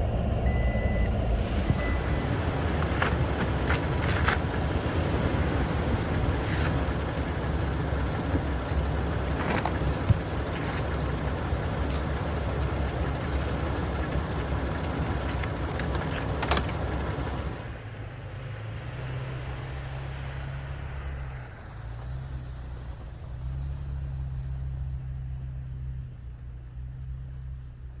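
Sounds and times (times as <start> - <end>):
vehicle rushing noise: 0.0 - 23.7
low engine hum: 0.0 - 28.0.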